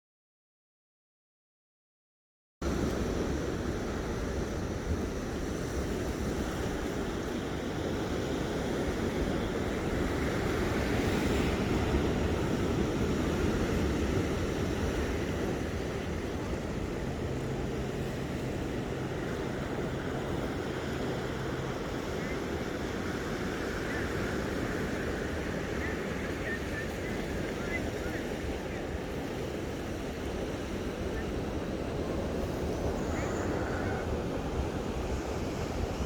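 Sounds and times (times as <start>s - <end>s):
ocean surf washing in: 2.6s - 36.0s.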